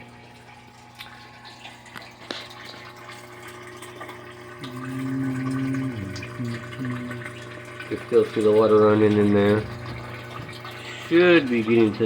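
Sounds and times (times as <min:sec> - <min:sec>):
steady low hum: 0:00.0 - 0:12.0
water running into washing machine: 0:00.0 - 0:12.0.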